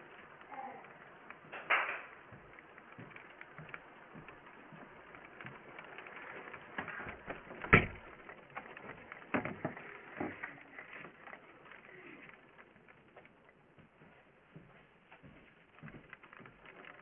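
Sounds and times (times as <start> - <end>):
raindrops tapping on plastic housing: 0.0 - 14.0.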